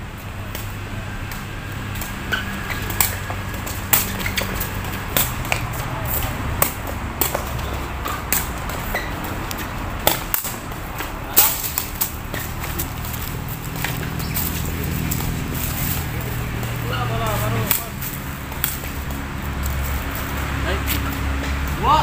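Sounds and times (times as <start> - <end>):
ball kicked with hollow smacks: 0.4 - 16.9, 17.6 - 21.7.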